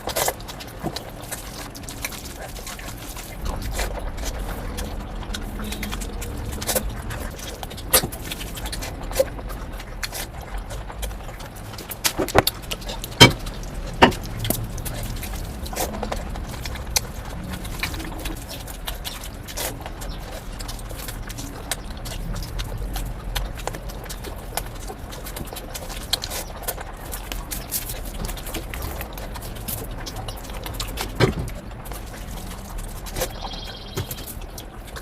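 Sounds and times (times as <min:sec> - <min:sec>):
chewing and mouth clicks: 0:00.0 - 0:35.0.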